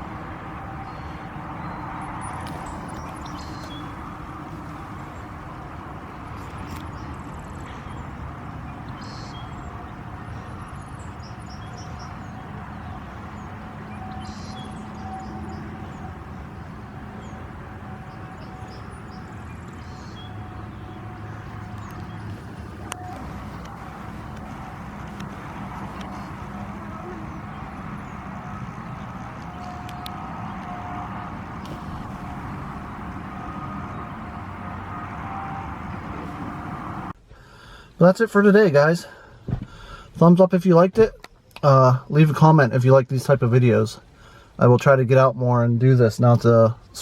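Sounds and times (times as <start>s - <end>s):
distant small plane engine: 0.0s - 37.9s
outdoor background noise: 0.0s - 47.0s.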